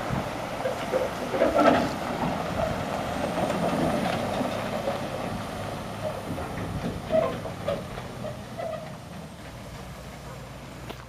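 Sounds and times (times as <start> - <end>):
heavy vehicle running: 0.0 - 11.0.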